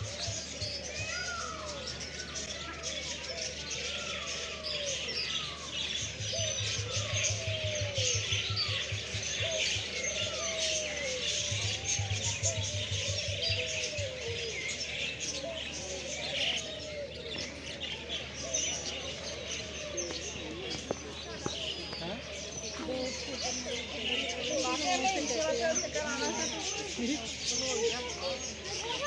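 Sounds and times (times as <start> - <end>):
small birds chirping and twittering: 0.0 - 29.0.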